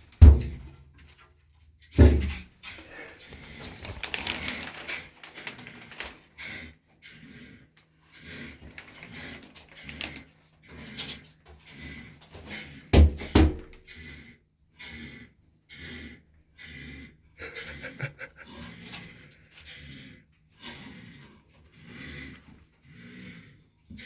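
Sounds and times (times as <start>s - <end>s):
animal breathy sounds: 2.6s - 12.9s, 13.8s - 24.0s.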